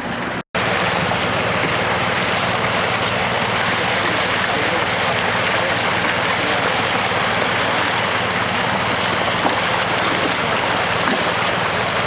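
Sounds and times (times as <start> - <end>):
truck engine humming: 0.0 - 12.0
water gushing down a slide: 0.6 - 12.0.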